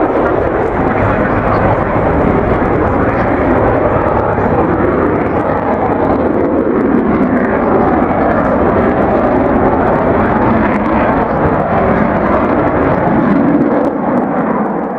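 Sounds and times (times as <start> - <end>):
jet engines roaring: 0.0 - 14.9.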